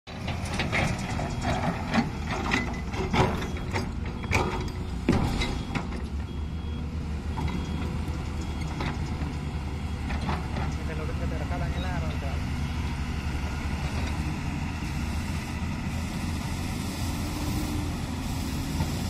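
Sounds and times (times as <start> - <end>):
excavator diesel engine running: 0.1 - 19.0.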